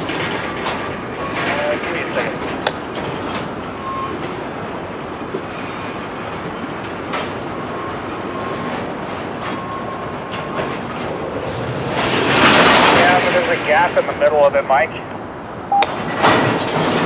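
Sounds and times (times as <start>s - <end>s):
freight cars rumbling on track: 0.0s - 17.0s.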